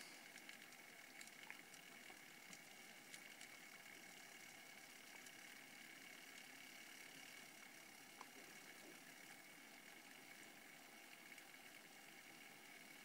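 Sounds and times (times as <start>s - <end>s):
faint steady hiss: 0.0s - 13.0s
soft ticks: 0.0s - 13.0s.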